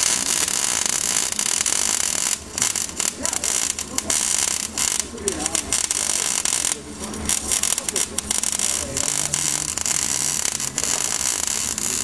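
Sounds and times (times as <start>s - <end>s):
arc welder crackling and sizzling: 0.0s - 12.0s.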